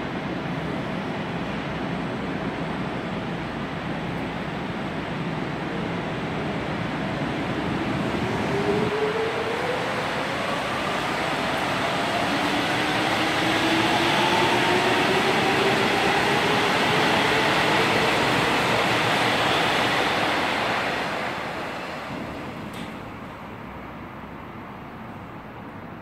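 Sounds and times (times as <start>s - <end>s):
train wheels rumbling on rails: 0.0s - 25.4s.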